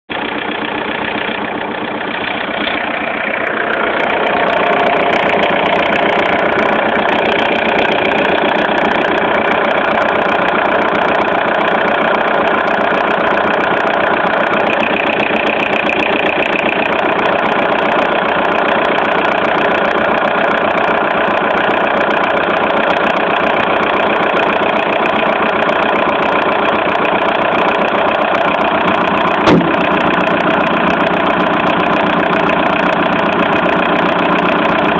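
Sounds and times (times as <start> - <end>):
diesel car engine running: 0.1 - 34.9.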